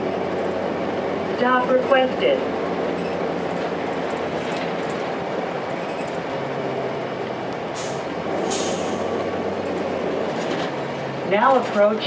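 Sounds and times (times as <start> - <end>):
bus diesel engine running: 0.0 - 12.0
road noise: 0.0 - 12.0.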